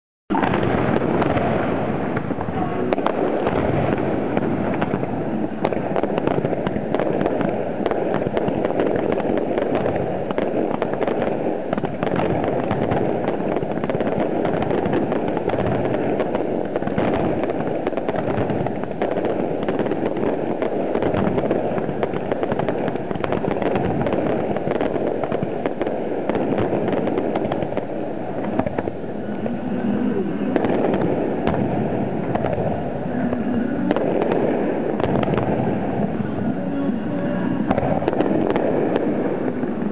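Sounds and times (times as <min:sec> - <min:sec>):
fireworks bangs and crackling: 0:00.3 - 0:39.9.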